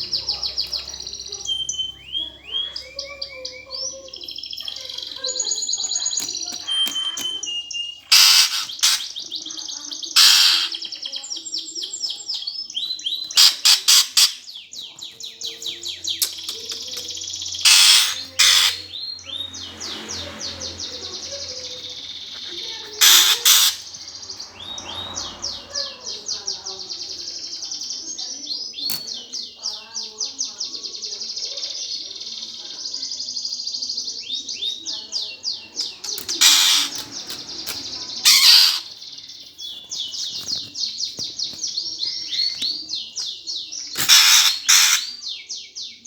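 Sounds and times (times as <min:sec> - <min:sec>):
harsh bird chattering: 0:00.0 - 0:29.6, 0:34.2 - 0:45.6
sparrows chirping: 0:00.0 - 0:46.0.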